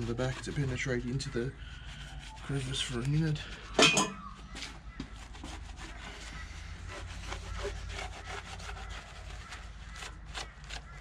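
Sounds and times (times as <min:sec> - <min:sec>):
rag rubbing on metal: 0:00.0 - 0:11.0.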